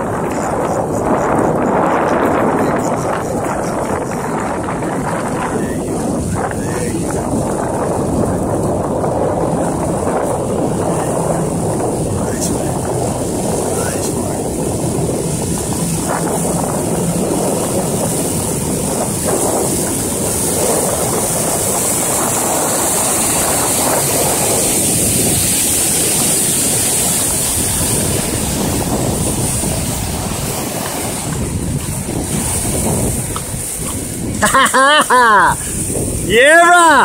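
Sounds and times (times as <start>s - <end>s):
breaking waves and whitewater: 0.0s - 37.0s.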